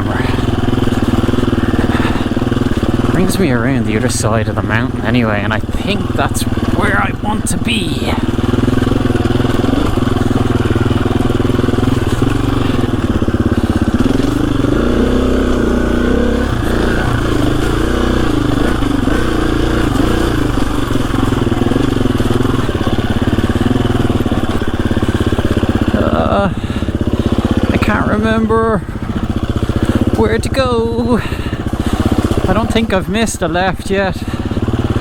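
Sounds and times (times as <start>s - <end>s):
dirt bike engine at low revs: 0.0s - 35.0s.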